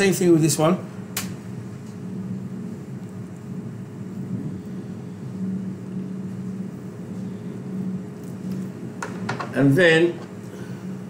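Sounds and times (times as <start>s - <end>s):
extraction fan hum: 0.0s - 11.0s.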